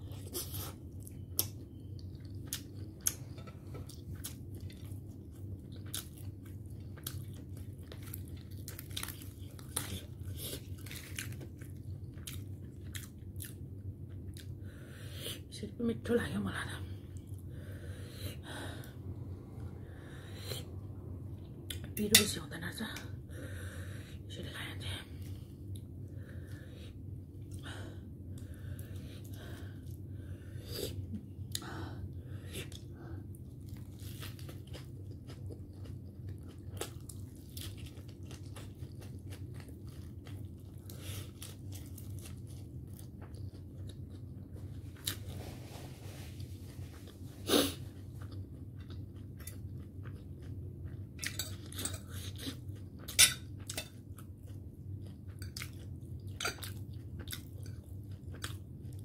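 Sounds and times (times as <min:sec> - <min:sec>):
chewing and crunching food: 0:00.0 - 0:15.5, 0:25.1 - 0:59.0
low hum: 0:00.0 - 0:53.0.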